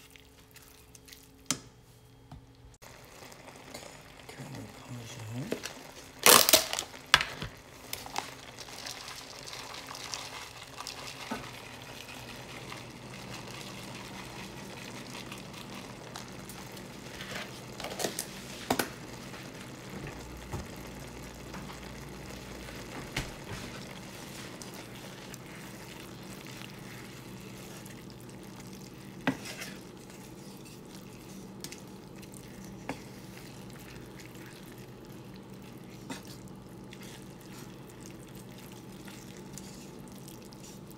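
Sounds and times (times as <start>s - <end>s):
sauce bubbling and sizzling: 2.8s - 40.9s.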